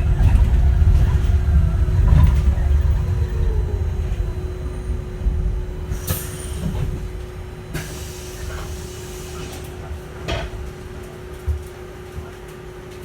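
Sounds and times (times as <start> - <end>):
clunks and rattles: 0.0 - 11.6
electric bus whine and rumble: 0.0 - 13.0.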